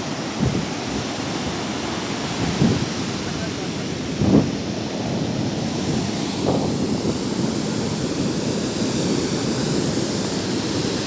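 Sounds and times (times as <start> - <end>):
sea surf washing against shore: 0.0 - 11.0
wind buffeting microphone: 0.0 - 11.0.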